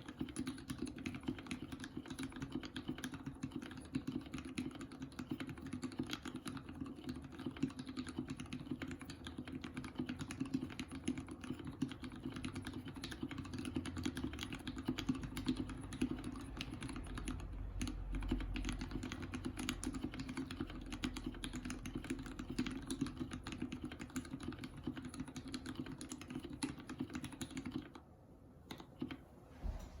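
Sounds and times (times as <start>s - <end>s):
rapid mechanical keyboard typing: 0.0s - 29.2s.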